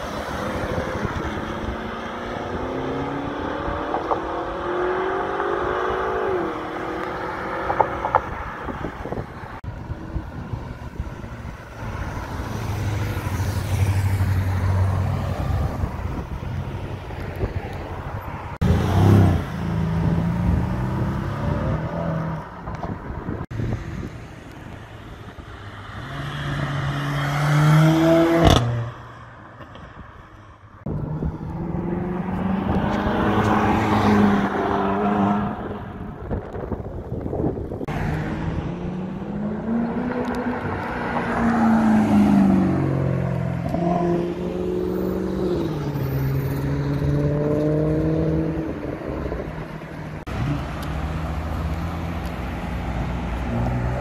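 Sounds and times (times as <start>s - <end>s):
cars accelerating past: 0.0s - 24.1s, 25.0s - 29.9s, 30.8s - 54.0s.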